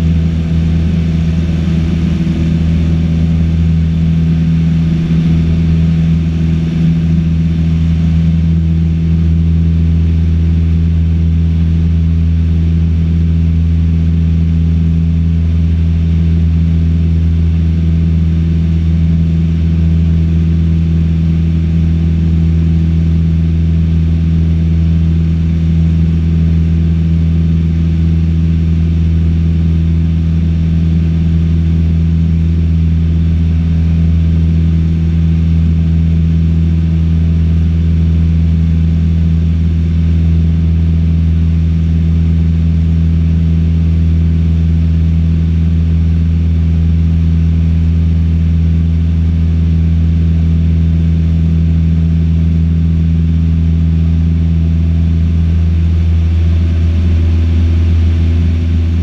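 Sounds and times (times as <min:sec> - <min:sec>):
airplane engine drone in cockpit: 0:00.0 - 0:59.0.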